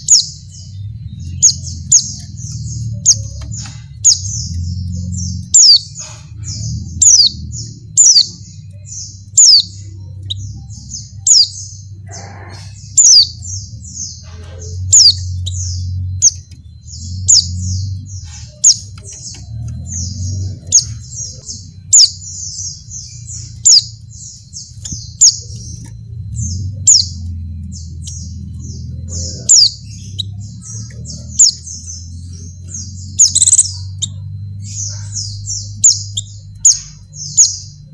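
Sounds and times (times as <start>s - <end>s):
bird chirping: 0.0s - 37.9s
low hum: 0.0s - 37.9s
soft bird twittering: 0.0s - 37.9s.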